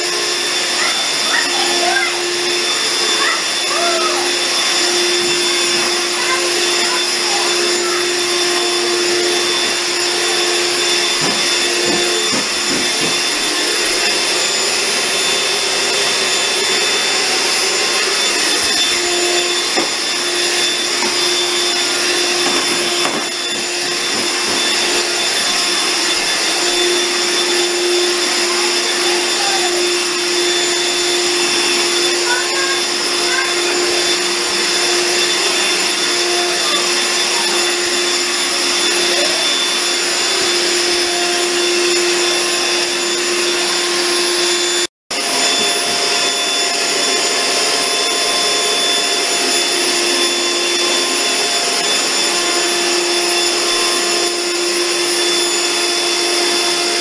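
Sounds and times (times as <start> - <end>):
handheld vacuum cleaner whining: 0.0 - 57.0.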